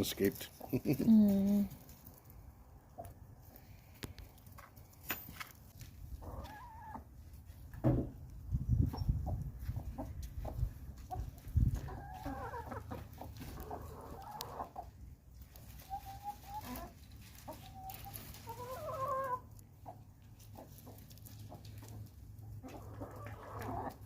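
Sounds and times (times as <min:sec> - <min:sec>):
chickens clucking: 0:00.0 - 0:04.8, 0:06.0 - 0:24.0.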